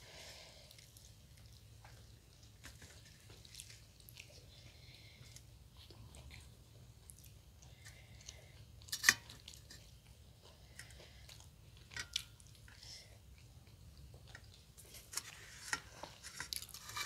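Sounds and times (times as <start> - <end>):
people chewing food: 0.0 - 17.0.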